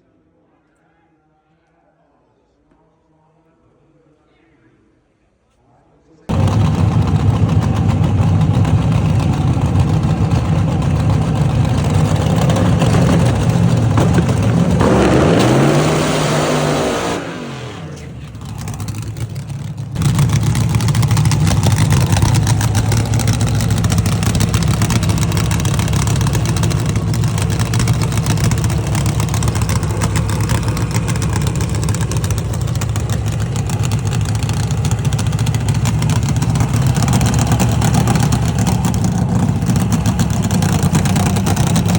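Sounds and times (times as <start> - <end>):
vehicle engine running: 6.3 - 41.9.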